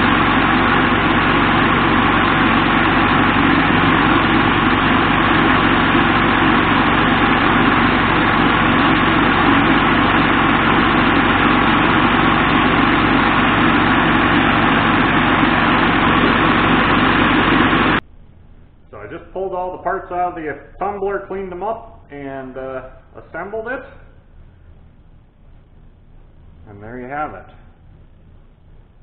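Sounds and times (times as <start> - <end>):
low motor hum: 0.0 - 26.8.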